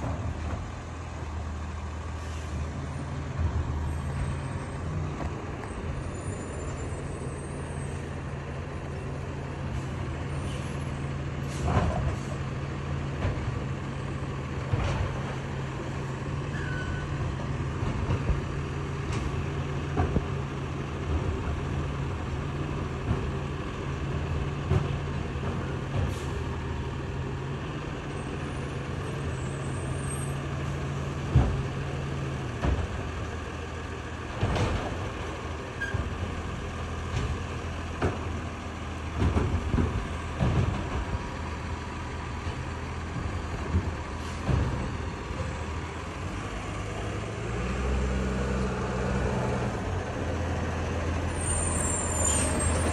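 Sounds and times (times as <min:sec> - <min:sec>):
diesel engine drone: 0:00.0 - 0:52.9.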